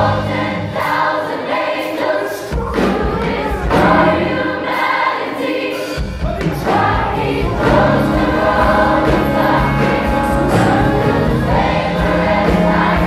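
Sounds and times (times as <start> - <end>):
choir singing gospel: 0.0 - 13.0
drums: 0.0 - 13.0
keyboard: 0.0 - 13.0.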